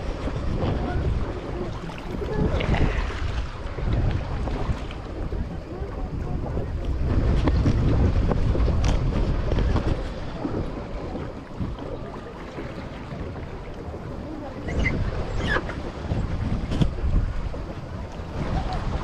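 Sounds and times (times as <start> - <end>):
water washing around boat: 0.0 - 19.0
wind buffeting microphone: 0.0 - 19.0.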